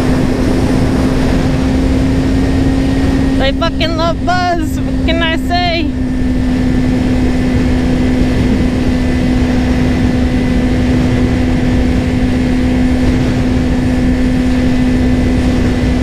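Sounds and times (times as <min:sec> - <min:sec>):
motorcycle engine cruising: 0:00.0 - 0:16.0
wind rush on microphone: 0:00.0 - 0:16.0.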